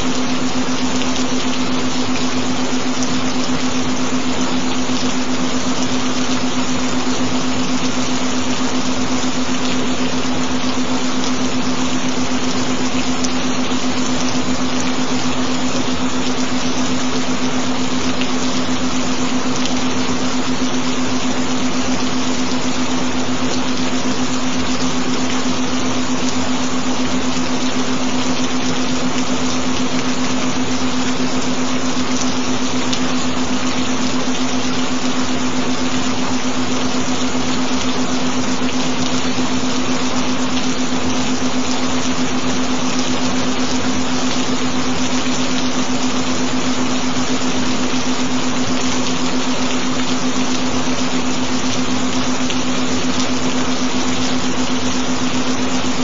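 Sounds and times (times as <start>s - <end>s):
gentle rain hiss: 0.0s - 56.0s.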